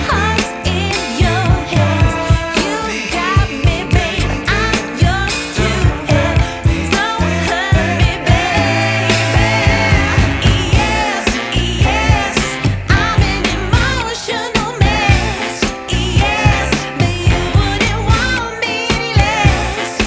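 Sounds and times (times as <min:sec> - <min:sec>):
person singing: 0:00.0 - 0:20.0
steady drum beat: 0:00.0 - 0:20.0.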